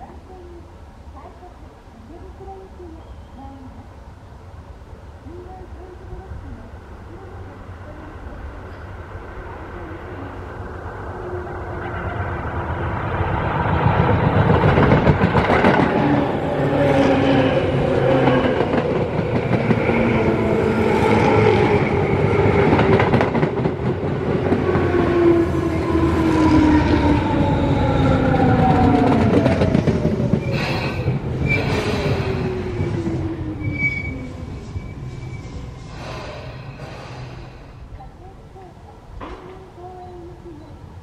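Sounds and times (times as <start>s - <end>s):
wheels rumbling on rail: 0.0s - 41.0s.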